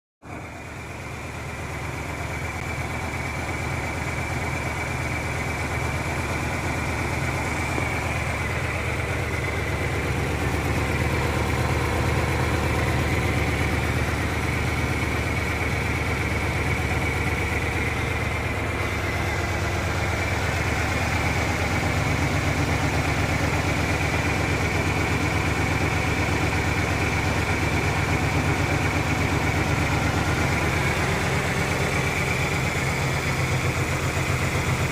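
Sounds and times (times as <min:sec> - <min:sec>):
truck engine idling roughly: 0:00.2 - 0:34.9.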